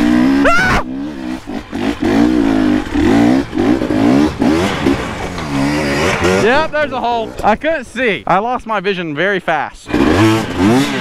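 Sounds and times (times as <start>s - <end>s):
dirt bike engine revving: 0.0s - 7.7s, 9.8s - 11.0s.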